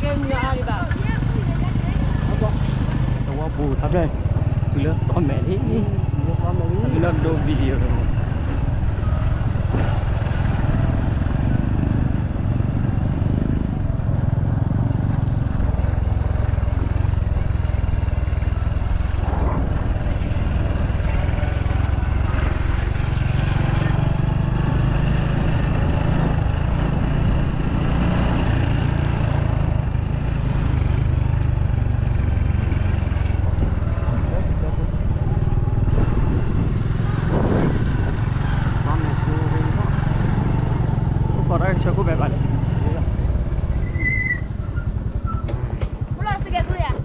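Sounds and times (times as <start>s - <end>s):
vehicle engine and road noise: 0.0s - 47.0s.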